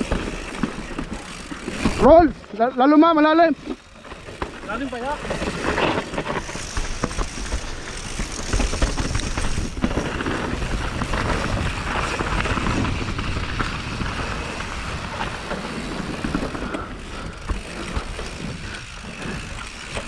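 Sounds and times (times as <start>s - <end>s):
bike rattling over rocks: 0.0s - 20.0s.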